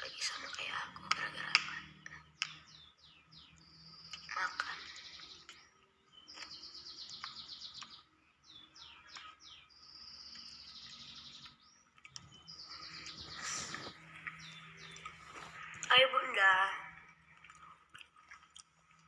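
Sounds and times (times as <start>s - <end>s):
songbird trilling: 0.0s - 17.4s.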